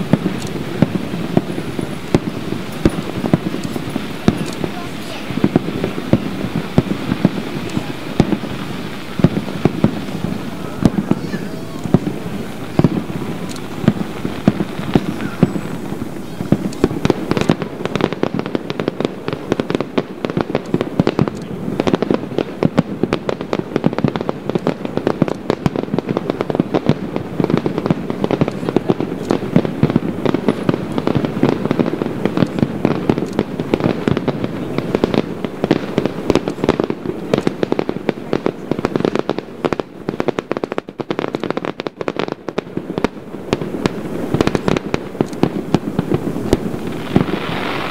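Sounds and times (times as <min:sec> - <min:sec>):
firework bangs and crackles: 0:00.0 - 0:47.9.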